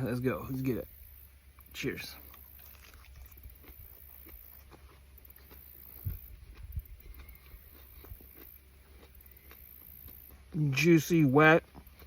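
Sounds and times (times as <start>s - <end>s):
wet chewing: 1.6s - 12.0s.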